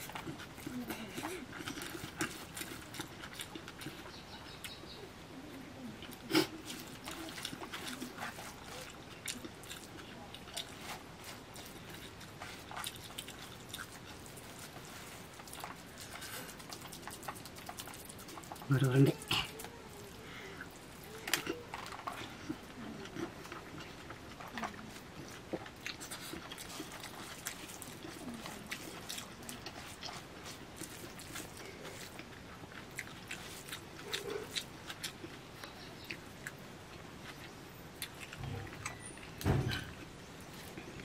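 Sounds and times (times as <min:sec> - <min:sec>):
mouth chewing and smacking: 0:00.0 - 0:05.0, 0:06.0 - 0:41.0.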